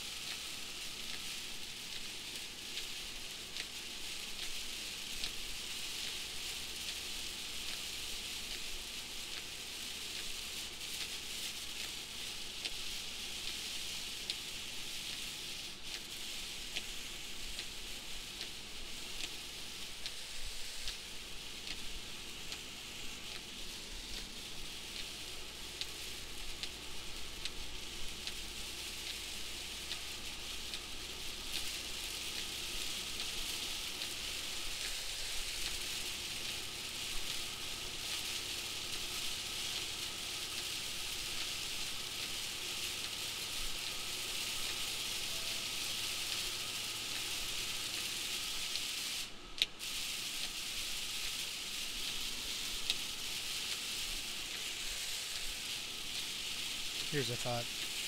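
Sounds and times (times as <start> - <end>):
heavy rain on vehicle: 0.0 - 58.0
tyre spray on wet road: 0.0 - 58.0.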